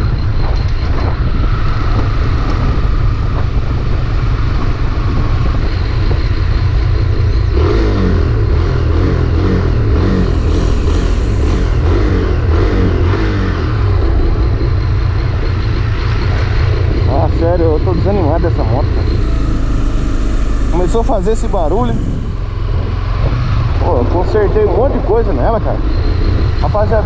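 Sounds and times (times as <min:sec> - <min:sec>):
motorcycle engine running: 0:00.0 - 0:27.0
wind rumble: 0:00.0 - 0:27.0.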